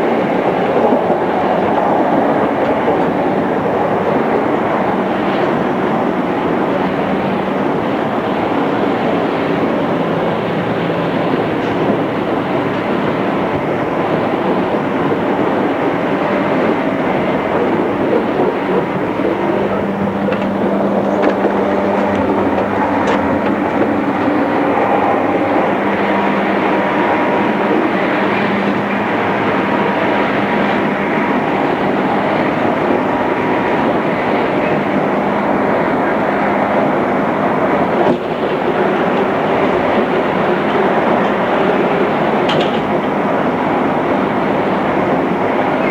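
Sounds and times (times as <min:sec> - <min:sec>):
train interior rumble and hum: 0:00.0 - 0:45.9.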